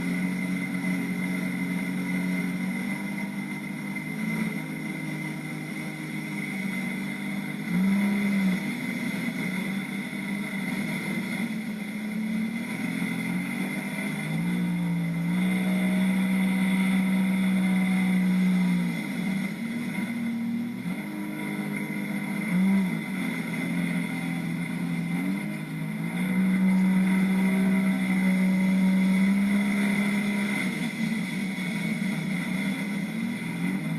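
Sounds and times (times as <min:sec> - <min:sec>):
high whine: 0:00.0 - 0:33.9
jet ski engine revving: 0:00.0 - 0:33.9.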